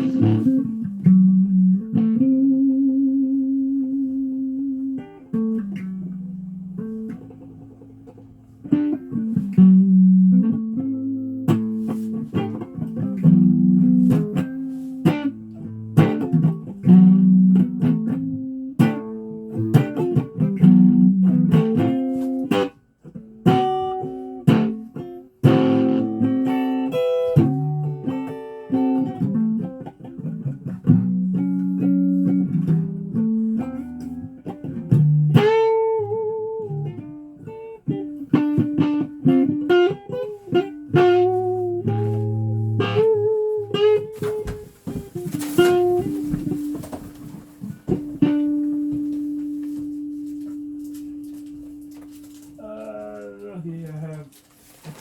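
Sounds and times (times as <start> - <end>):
guitar played with a pick: 0.0 - 55.0.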